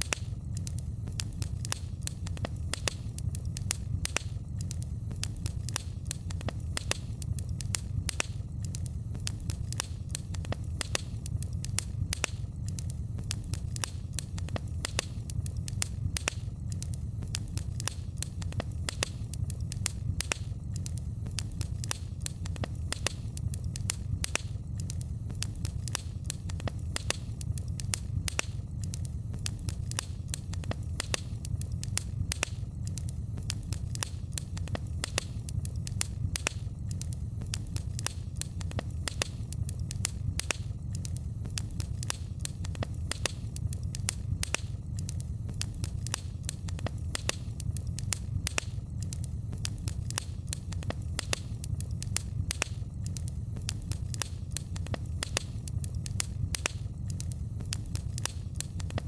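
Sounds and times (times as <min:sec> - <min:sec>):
fire crackling and popping: 0:00.0 - 0:59.0
low steady rumble: 0:00.0 - 0:59.0.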